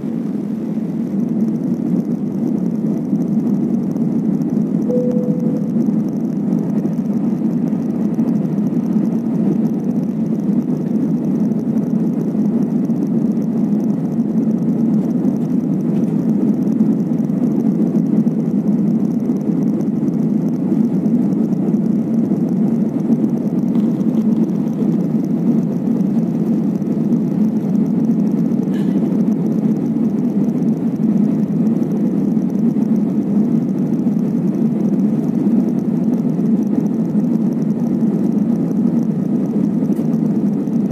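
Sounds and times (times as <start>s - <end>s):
jet airliner cabin roar: 0.0s - 40.9s.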